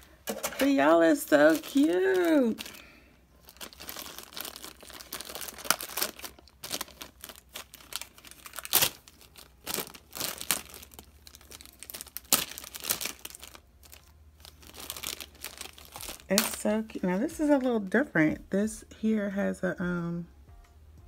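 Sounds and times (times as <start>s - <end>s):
paper and plastic crinkling: 0.0s - 18.0s.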